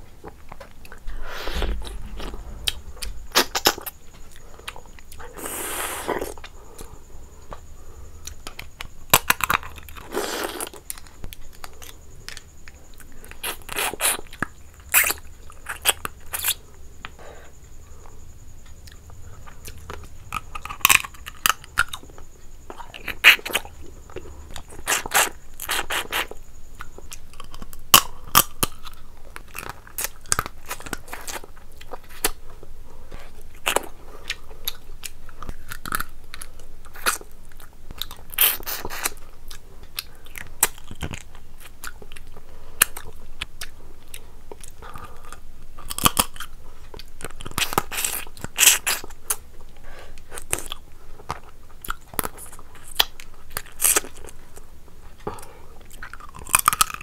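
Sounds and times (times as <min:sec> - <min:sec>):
person chewing and crunching food: 0:00.1 - 0:17.2, 0:18.7 - 0:57.0.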